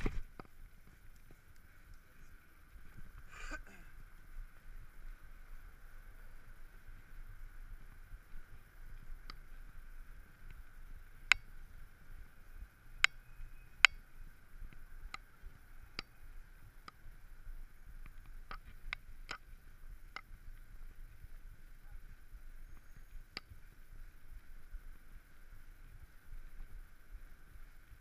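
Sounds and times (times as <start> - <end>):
bike tyres rolling on pavement: 0.0 - 3.3, 3.9 - 28.0.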